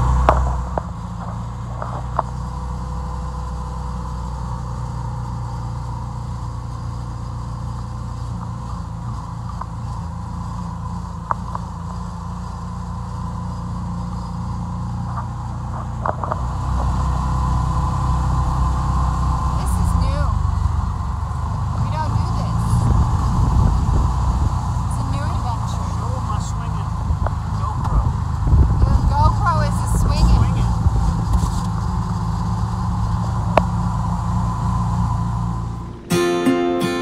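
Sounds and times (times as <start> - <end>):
car engine and road hum: 0.0 - 37.0.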